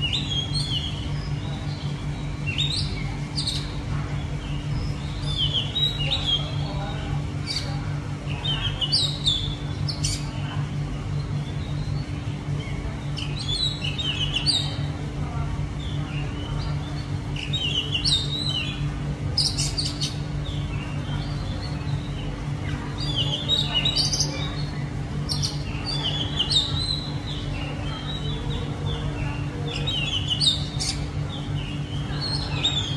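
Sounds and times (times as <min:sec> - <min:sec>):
bird singing: 0:00.0 - 0:14.9, 0:15.7 - 0:32.9
steady low hum: 0:00.0 - 0:32.9.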